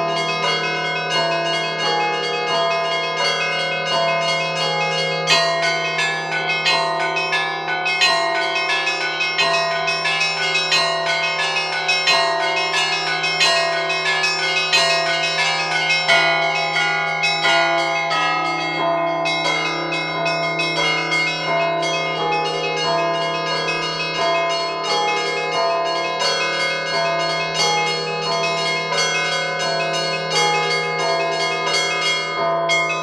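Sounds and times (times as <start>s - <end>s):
low steady bell tone: 0.0s - 33.0s
small church bells ringing: 0.0s - 33.0s.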